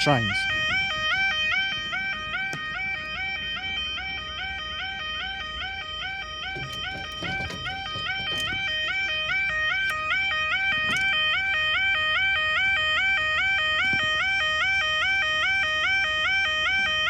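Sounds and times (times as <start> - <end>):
two-tone electronic warning alarm: 0.0 - 17.0.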